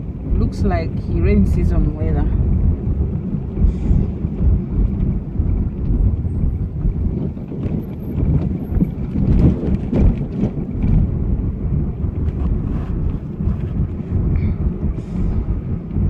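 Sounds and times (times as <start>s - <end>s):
moving car rumble: 0.0s - 16.0s
wind buffeting microphone: 0.0s - 16.0s.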